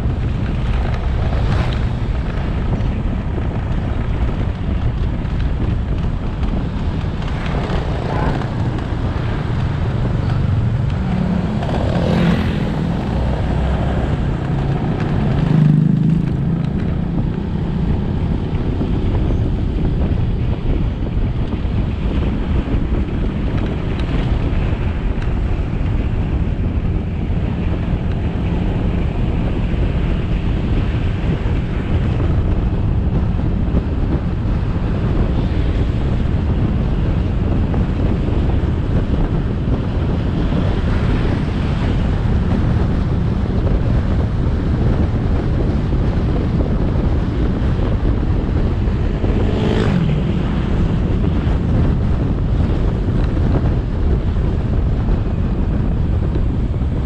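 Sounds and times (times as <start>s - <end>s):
motorcycle engine running: 0.0s - 57.0s
road noise: 0.0s - 57.0s
wind on microphone: 0.0s - 57.0s.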